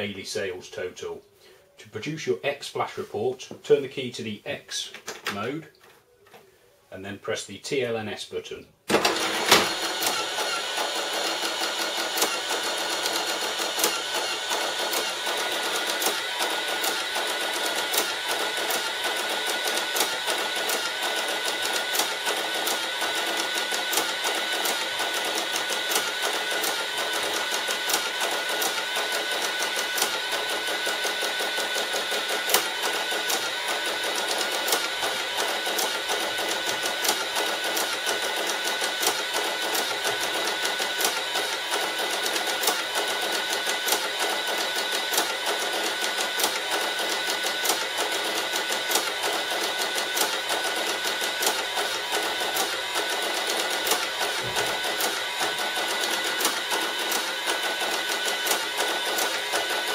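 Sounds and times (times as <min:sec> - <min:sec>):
receipt printer whirring and clicking: 0:08.9 - 0:59.9.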